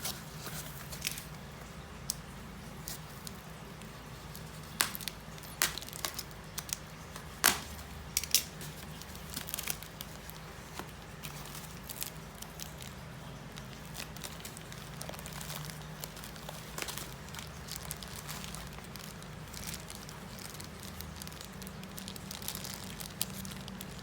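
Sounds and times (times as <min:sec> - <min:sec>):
packaging crinkling: 0:00.0 - 0:24.0
packaging tearing: 0:02.8 - 0:24.0.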